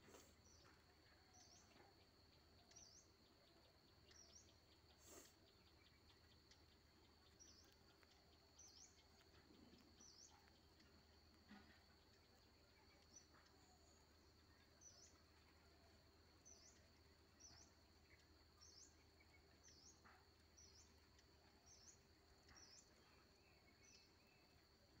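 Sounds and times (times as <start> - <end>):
faint small bird chirps: 0.0 - 25.0.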